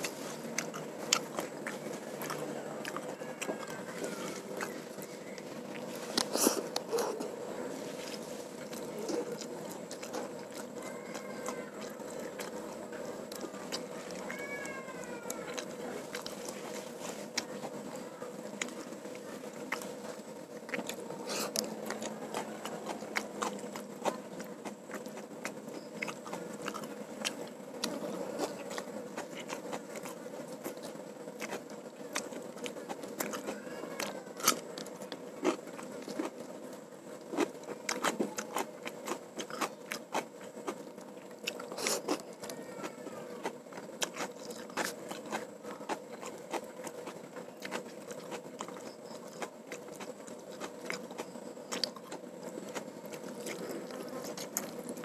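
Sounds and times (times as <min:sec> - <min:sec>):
person chewing and crunching food: 0:00.0 - 0:55.0.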